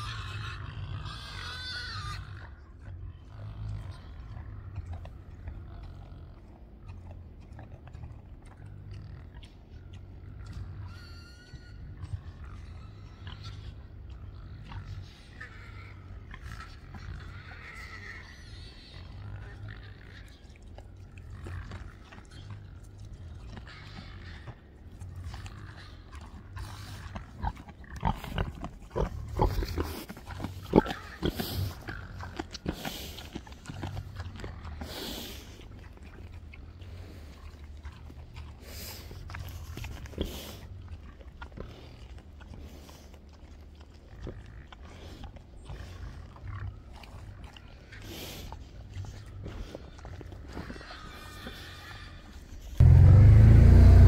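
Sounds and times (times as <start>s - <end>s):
pigs grunting: 0.0s - 54.0s.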